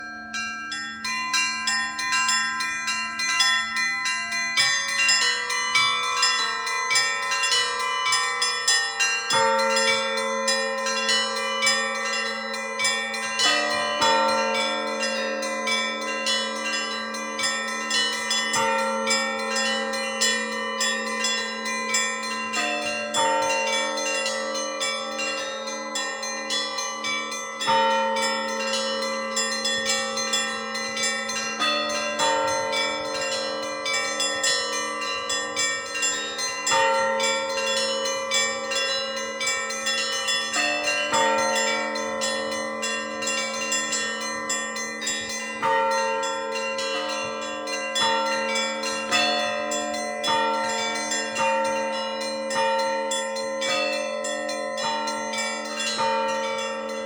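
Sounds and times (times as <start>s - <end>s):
small high bells striking: 0.0s - 57.0s
deep bells ringing: 0.3s - 57.0s.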